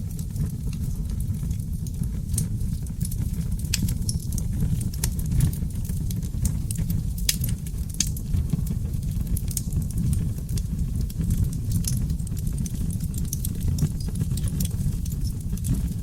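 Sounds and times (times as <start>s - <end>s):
low rumble of flames: 0.0s - 16.0s
logs crackling and popping: 0.1s - 16.0s.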